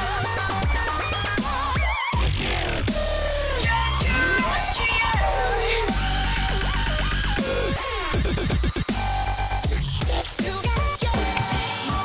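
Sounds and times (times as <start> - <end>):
heavy bass: 0.0 - 12.0.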